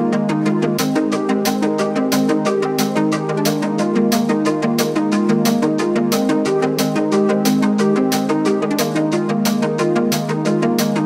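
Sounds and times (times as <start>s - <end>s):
melodic music with percussive beat: 0.0s - 11.0s.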